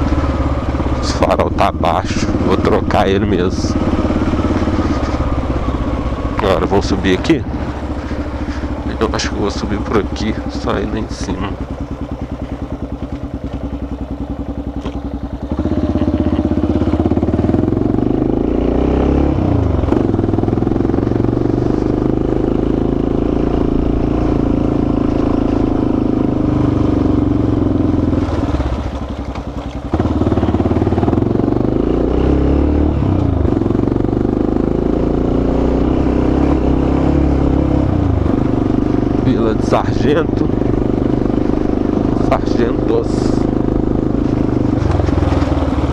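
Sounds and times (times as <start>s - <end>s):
motorcycle engine under throttle: 0.0s - 45.9s.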